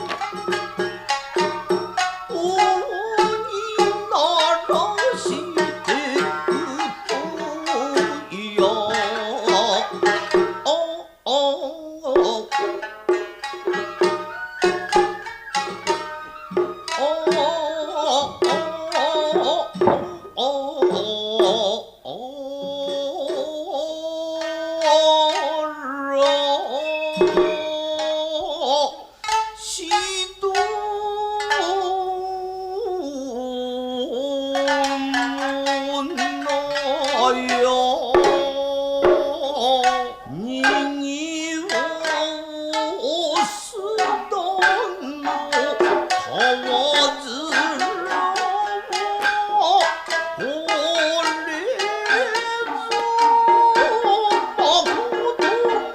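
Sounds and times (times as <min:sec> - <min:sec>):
hand drums: 0:00.0 - 0:11.2, 0:12.0 - 0:55.9
wavering held melody: 0:00.0 - 0:11.3, 0:11.9 - 0:55.9
plucked shamisen: 0:00.0 - 0:55.9.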